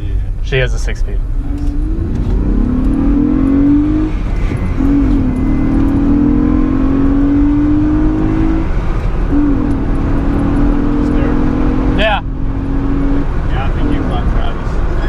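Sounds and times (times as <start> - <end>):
car engine accelerating: 0.0 - 15.0
road and wind rumble: 0.0 - 15.0.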